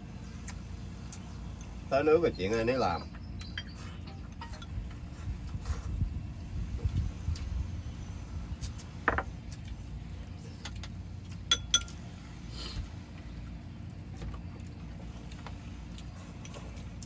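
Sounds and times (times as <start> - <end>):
boat engine low rumble: 0.0 - 17.0.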